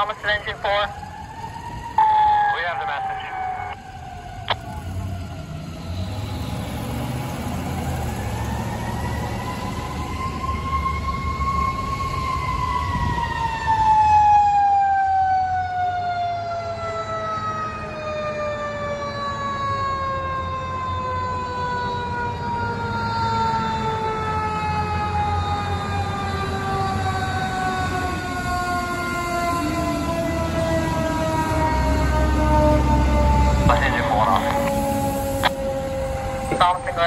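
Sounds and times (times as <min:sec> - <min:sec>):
fire engine rumble: 0:00.0 - 0:37.0
fire engine siren wailing: 0:00.0 - 0:37.0.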